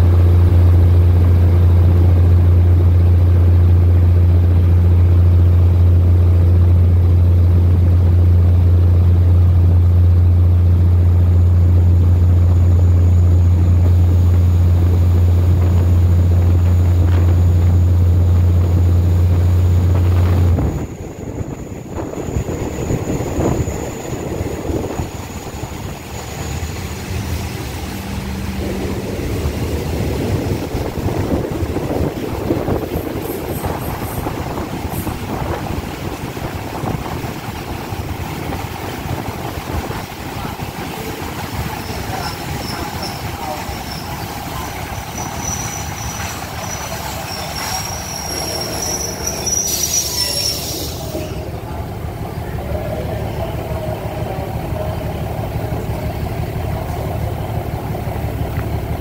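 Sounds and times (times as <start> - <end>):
diesel train engine drone: 0.0 - 59.0
wheels rumbling on track: 0.0 - 59.0.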